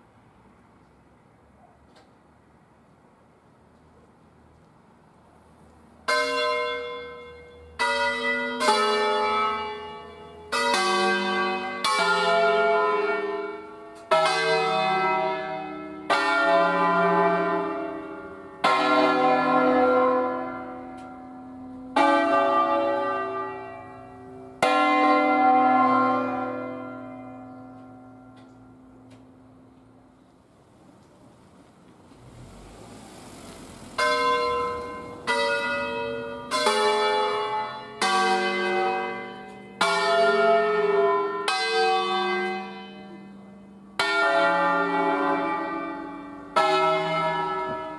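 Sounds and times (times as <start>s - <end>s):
church bells ringing: 6.0s - 30.2s, 32.3s - 47.9s.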